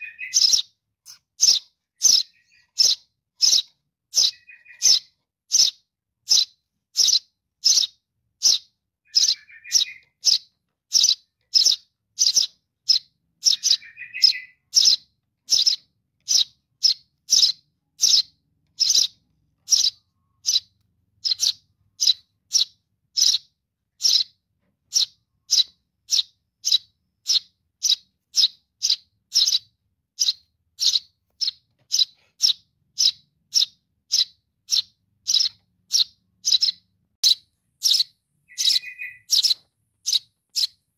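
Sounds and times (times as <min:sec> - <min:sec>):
bird chick high chirps: 0:00.0 - 0:40.9.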